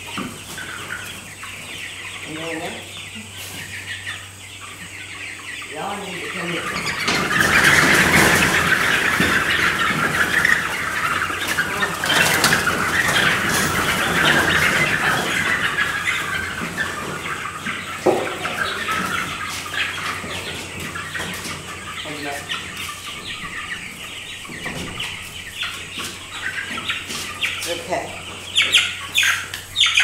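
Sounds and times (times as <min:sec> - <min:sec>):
chickens squawking: 0:00.0 - 0:30.0.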